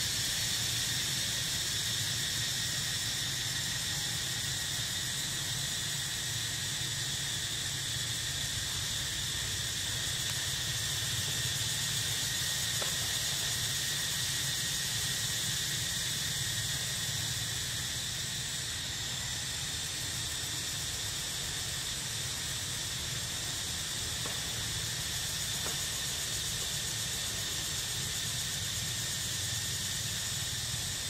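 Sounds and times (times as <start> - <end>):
constant low hum: 0.0 - 31.0
insects droning: 0.0 - 31.0.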